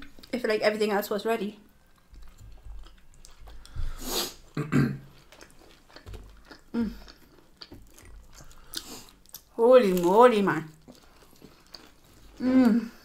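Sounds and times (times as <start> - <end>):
people chewing: 1.7 - 13.0.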